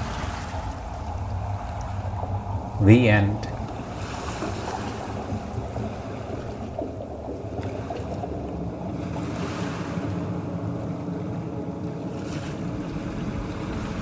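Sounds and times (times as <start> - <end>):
surf washing: 0.0 - 14.0
wave breaking: 0.0 - 14.0.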